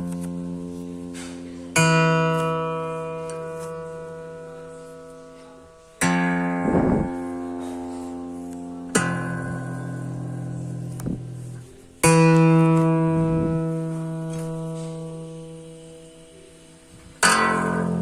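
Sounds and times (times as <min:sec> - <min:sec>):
acoustic guitar chords strummed: 0:00.0 - 0:18.0.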